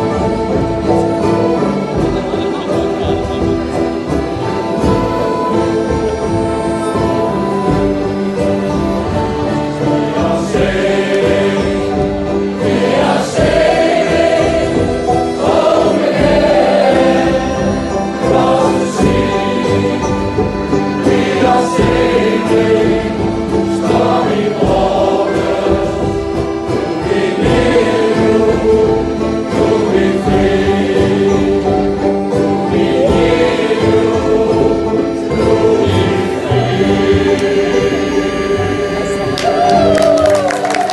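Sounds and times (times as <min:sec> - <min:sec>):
accordion chords: 0:00.0 - 0:40.9
choir singing in harmony: 0:00.0 - 0:40.9.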